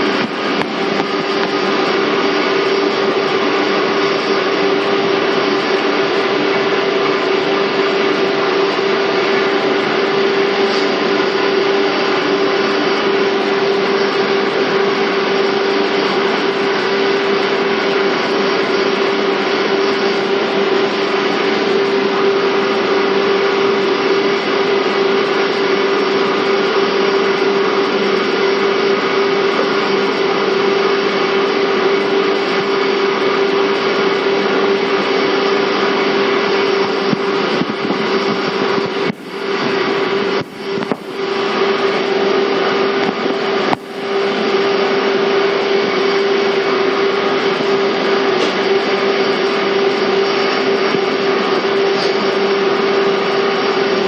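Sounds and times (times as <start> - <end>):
electric train running with whine: 0.0 - 54.0.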